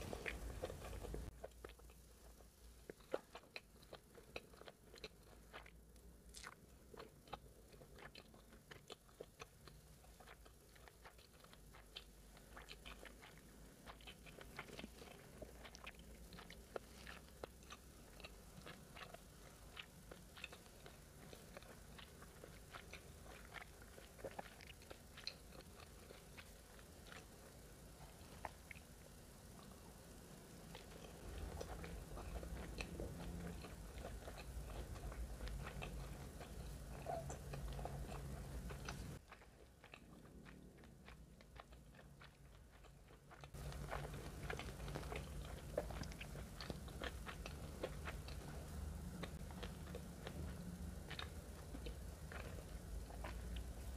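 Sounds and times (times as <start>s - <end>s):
chewing with mouth closed: 0.0s - 53.9s.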